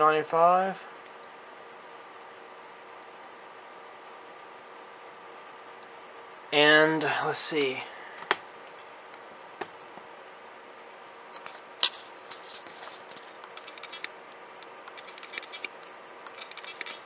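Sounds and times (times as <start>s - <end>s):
computer fans humming: 0.0s - 17.0s.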